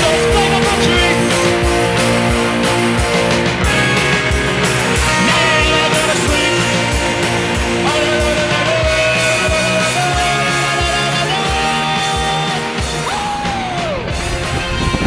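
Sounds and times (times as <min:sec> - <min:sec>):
rock music: 0:00.0 - 0:15.0
steady drum beat: 0:00.0 - 0:15.0.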